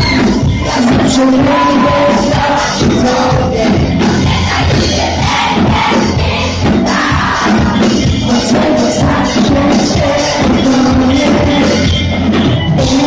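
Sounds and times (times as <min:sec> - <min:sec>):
live pop band playing: 0:00.0 - 0:13.0.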